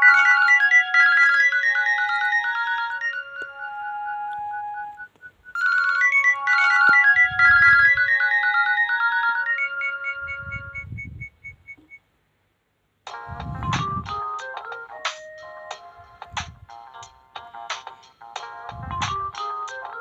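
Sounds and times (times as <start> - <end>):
polyphonic ringtone melodies: 0.0 - 11.3, 13.1 - 20.0.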